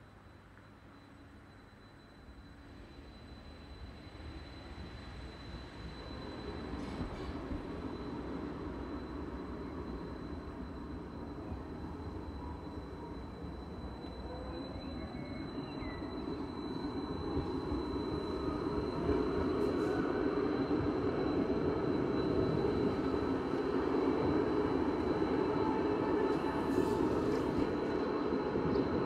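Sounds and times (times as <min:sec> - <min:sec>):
thin steady high tone: 0:00.0 - 0:29.0
tram rolling along track: 0:00.0 - 0:29.0.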